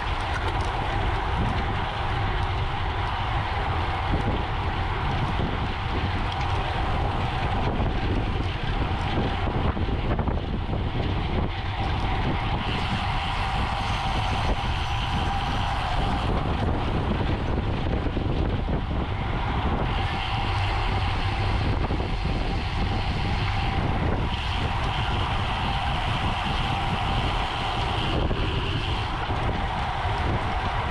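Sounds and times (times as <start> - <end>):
tyres humming on road: 0.0 - 30.9
wind rushing over microphone: 0.0 - 30.9.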